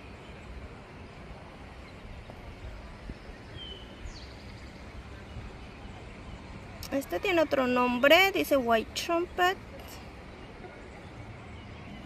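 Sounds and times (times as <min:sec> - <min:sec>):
outdoor background rumble: 0:00.0 - 0:12.0.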